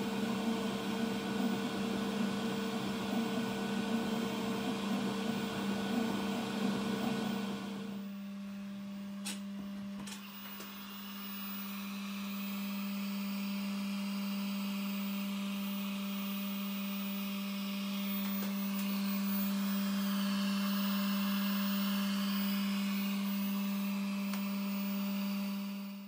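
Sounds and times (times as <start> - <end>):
motor whines: 0.0 - 26.0
printer low hum: 0.0 - 26.0.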